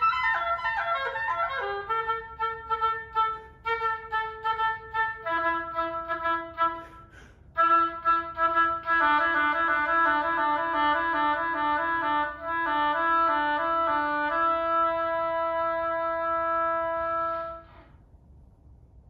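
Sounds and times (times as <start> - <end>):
solo woodwind playing: 0.0 - 17.9.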